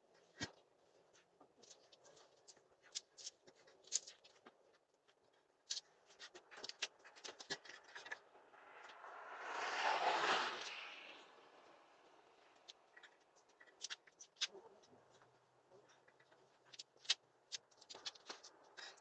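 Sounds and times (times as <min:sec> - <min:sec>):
faint clicks and scuffs: 0:00.0 - 0:19.0.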